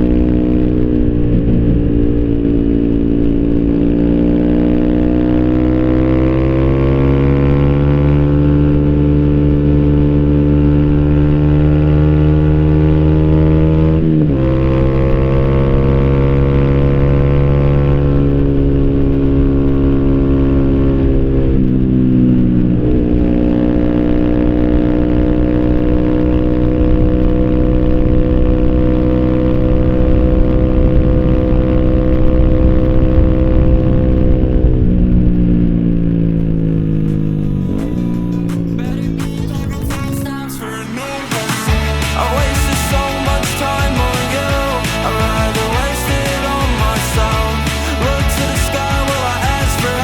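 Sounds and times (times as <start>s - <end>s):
motorcycle engine while riding: 0.0s - 40.2s.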